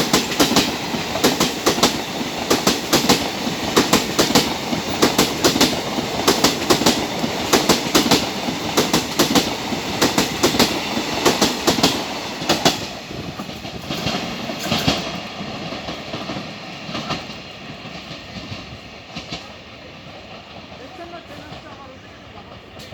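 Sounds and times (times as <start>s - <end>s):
train rumble: 0.0s - 22.9s
train wheels clattering on rails: 0.0s - 22.9s.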